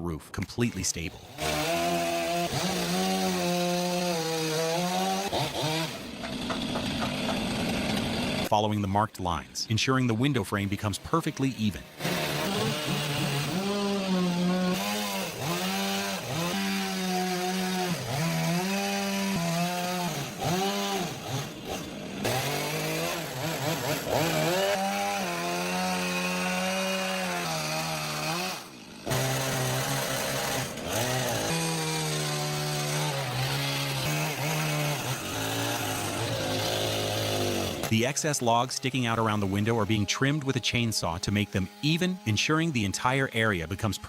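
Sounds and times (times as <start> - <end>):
chainsaw cutting wood: 0.6 - 8.6, 10.5 - 44.0.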